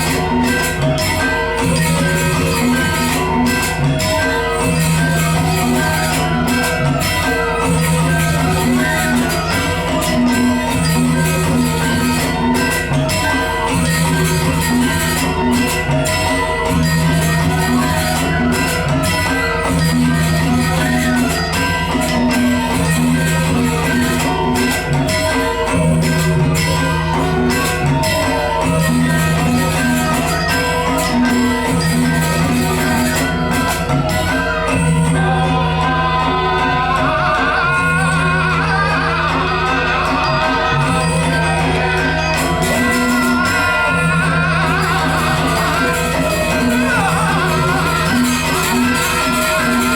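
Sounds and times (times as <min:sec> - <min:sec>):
gamelan ensemble playing: 0:00.0 - 0:49.9.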